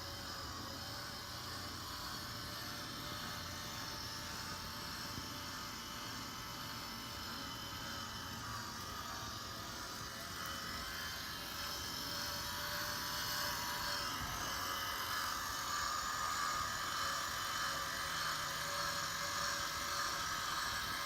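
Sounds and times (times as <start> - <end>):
small electric motor whirring: 0.0 - 21.0.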